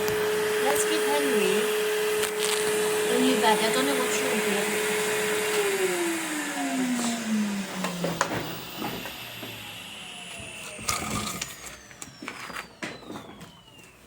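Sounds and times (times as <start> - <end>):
vacuum cleaner motor winding down: 0.0 - 14.0.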